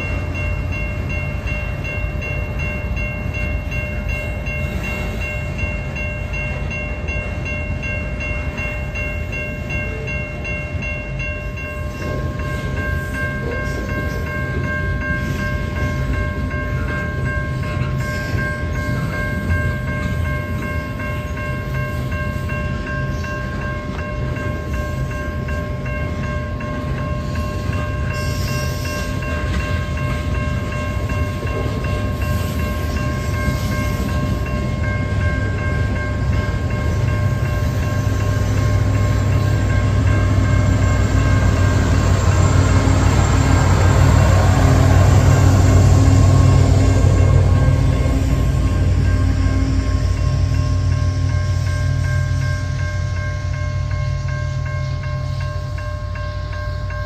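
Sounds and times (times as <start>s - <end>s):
freight train wheels rumbling on rail: 0.0s - 57.0s
thin high steady tones: 0.0s - 57.0s.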